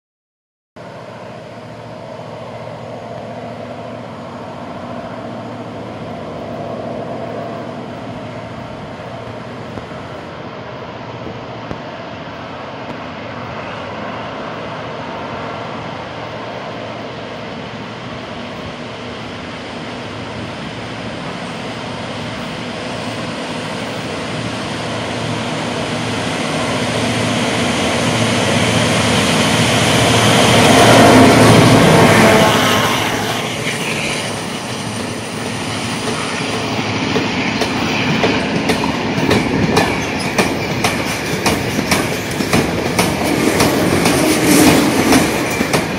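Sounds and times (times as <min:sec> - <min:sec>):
diesel locomotive passing: 0:00.8 - 0:45.9.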